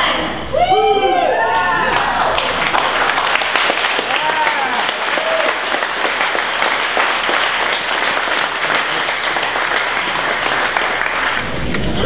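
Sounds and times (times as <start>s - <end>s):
crowd cheering: 0.5s - 12.0s
crowd applauding: 1.4s - 11.8s.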